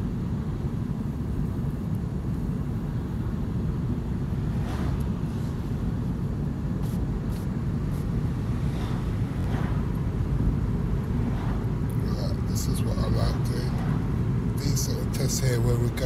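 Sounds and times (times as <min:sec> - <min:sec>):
car engine rumble: 0:00.0 - 0:16.0
tyre road noise: 0:00.0 - 0:16.0.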